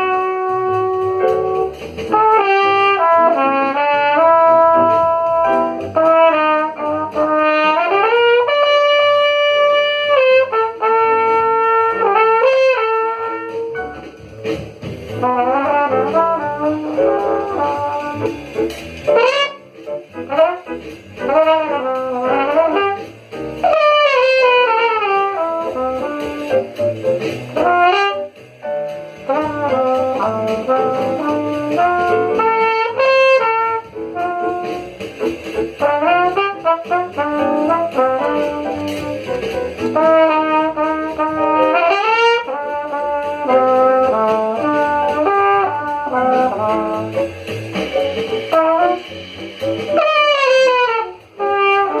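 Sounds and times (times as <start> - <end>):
brass horn playing jazz runs: 0.0 - 52.0.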